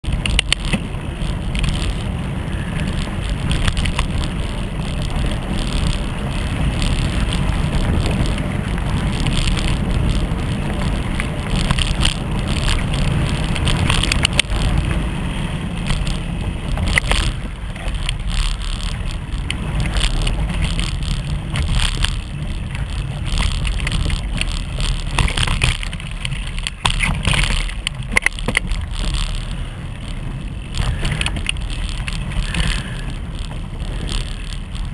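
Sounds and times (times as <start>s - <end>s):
clicks and rattles over gravel: 0.0s - 34.9s
low rumble of bike vibration: 0.0s - 34.9s
wind on microphone: 0.0s - 34.9s.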